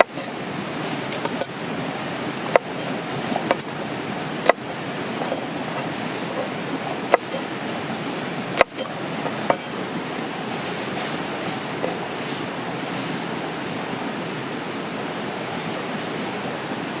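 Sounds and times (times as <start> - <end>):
rushing hiss: 0.0 - 17.0.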